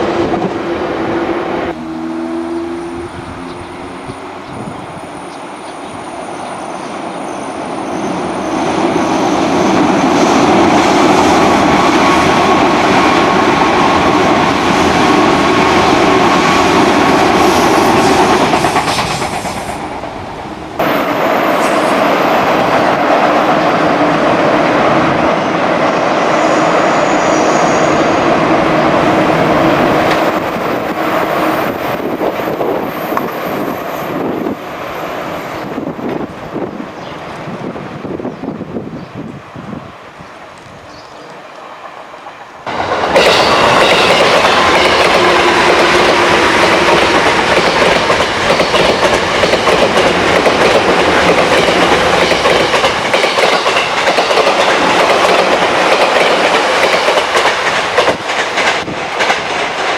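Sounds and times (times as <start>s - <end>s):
trains passing at speed: 0.0s - 59.9s.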